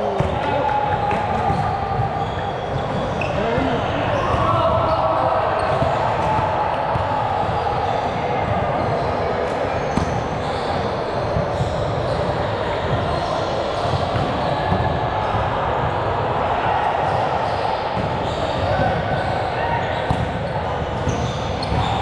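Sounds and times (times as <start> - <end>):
players' voices and chatter: 0.0 - 22.0.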